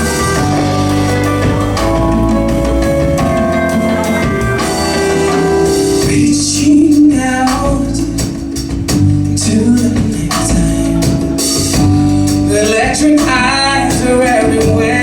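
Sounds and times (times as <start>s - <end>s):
bass: 0.0s - 15.0s
drum kit: 0.0s - 15.0s
keyboards: 0.0s - 15.0s.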